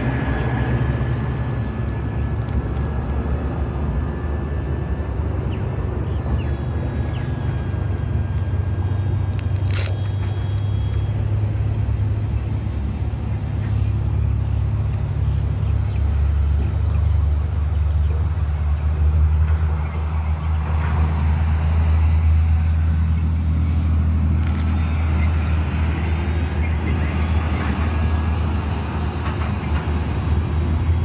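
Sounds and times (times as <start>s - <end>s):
airplane engine and propeller drone: 0.0s - 31.0s.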